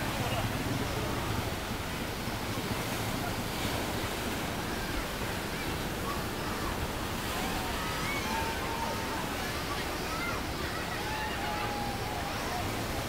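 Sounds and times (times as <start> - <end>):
river wave breaking: 0.0 - 13.0.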